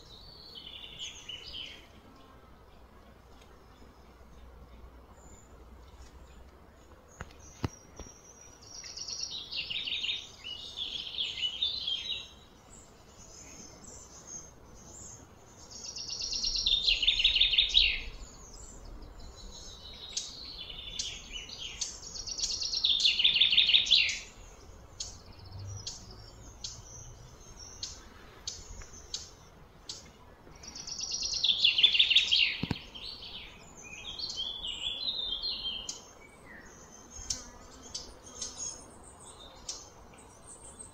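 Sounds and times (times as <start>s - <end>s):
bird singing buzzy trills: 0.0s - 40.9s.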